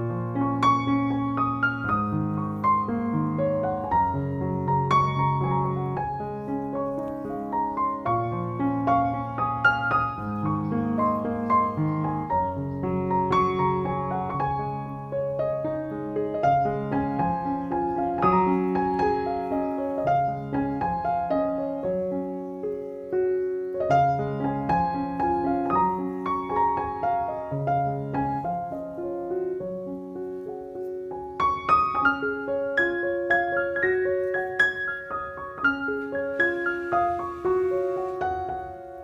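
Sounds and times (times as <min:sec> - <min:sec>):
gentle piano music: 0:00.0 - 0:39.0.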